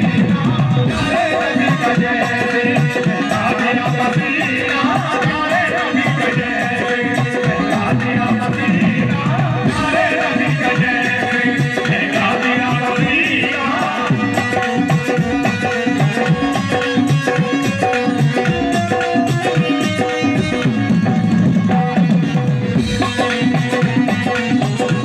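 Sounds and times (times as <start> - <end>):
fast hand-drum rhythm: 0.0 - 25.0
harmonium notes: 0.0 - 25.0.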